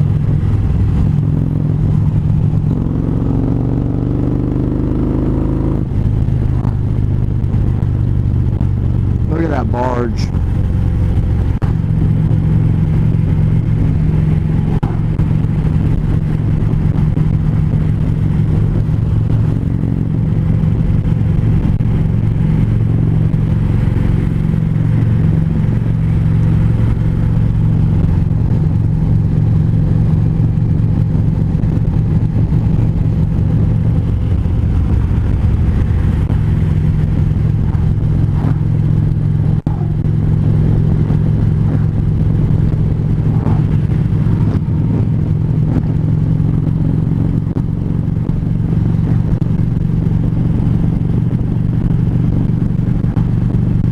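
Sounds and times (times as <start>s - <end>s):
motorcycle engine cruising: 0.0s - 53.9s
road noise: 0.0s - 53.9s
wind noise: 0.0s - 53.9s.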